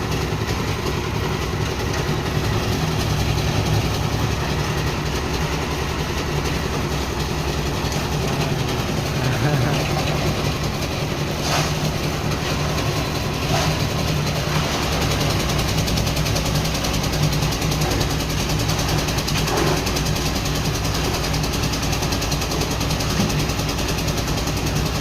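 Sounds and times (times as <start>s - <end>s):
concrete mixer engine humming: 0.0s - 25.0s.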